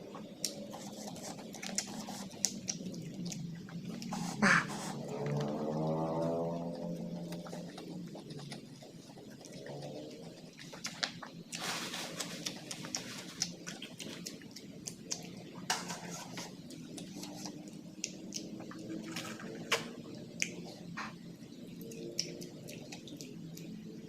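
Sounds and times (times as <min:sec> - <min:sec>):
wet chewing smacks: 0:00.0 - 0:15.7, 0:16.3 - 0:21.2, 0:21.8 - 0:23.8
crunchy chewing clicks: 0:00.0 - 0:24.0
low background drone: 0:00.0 - 0:24.0.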